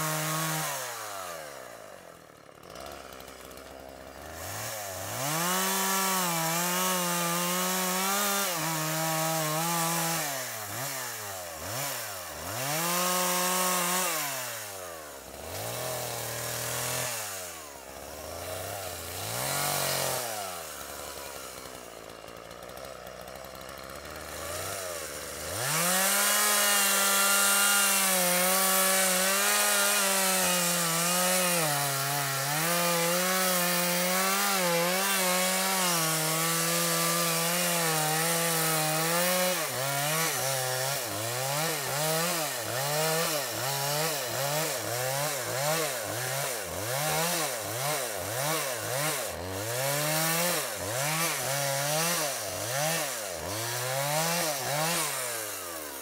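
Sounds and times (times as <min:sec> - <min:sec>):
chainsaw cutting tree: 0:00.0 - 0:56.0.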